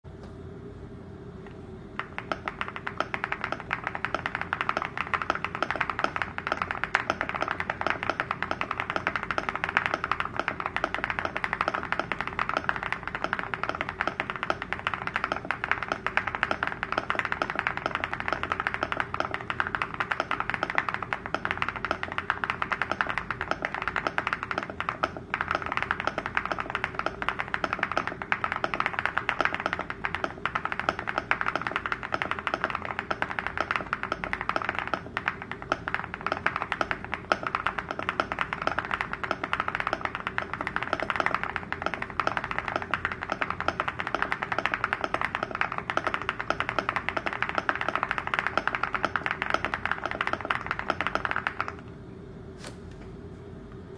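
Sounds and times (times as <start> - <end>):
fast mechanical keyboard typing: 2.0 - 51.8.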